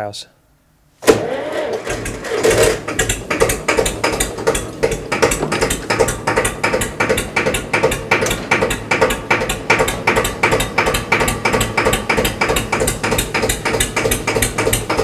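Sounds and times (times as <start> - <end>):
tractor diesel engine knocking: 1.9 - 15.0.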